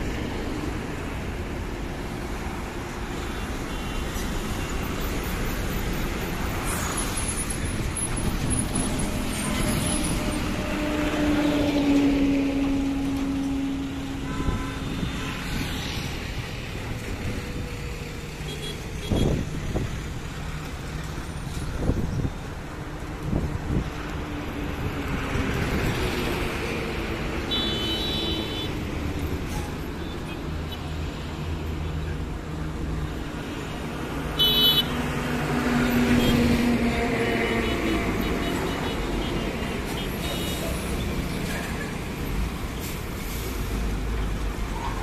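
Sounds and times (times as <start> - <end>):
highway traffic: 0.0 - 45.0.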